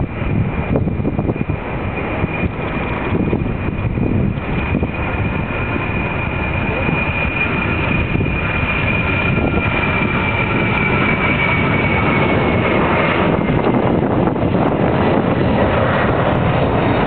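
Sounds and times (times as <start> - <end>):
jet engines roaring with whine: 0.0 - 17.0.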